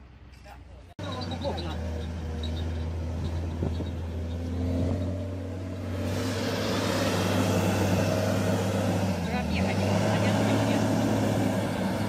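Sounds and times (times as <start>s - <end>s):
heavy diesel engine droning: 1.0s - 12.0s.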